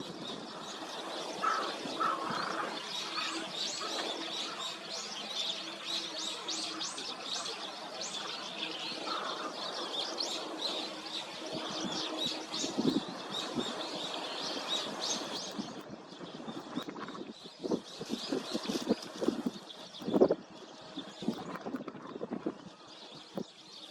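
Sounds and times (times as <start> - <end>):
sparrows chirping: 0.0 - 23.9.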